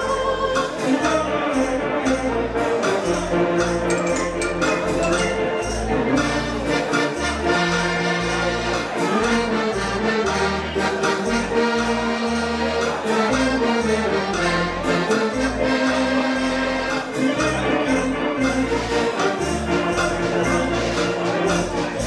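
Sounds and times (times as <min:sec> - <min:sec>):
dance organ playing: 0:00.0 - 0:22.0.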